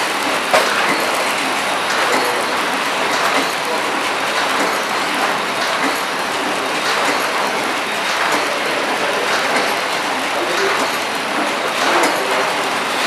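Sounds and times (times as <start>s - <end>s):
wrapping machine clatter: 0.0s - 13.0s.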